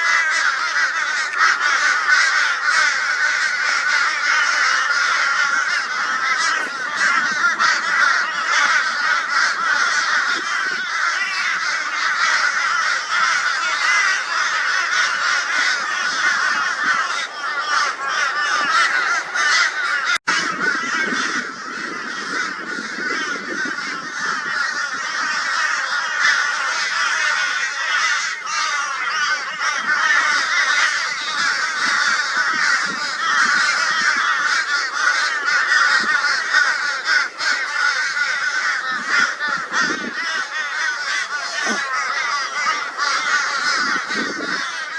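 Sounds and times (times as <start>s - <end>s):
crows calling: 0.0s - 44.9s.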